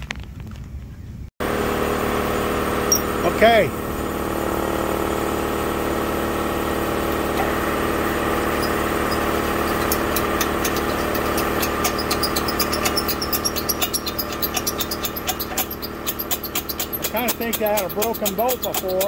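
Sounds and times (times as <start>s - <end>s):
machine motor humming: 1.4s - 19.0s.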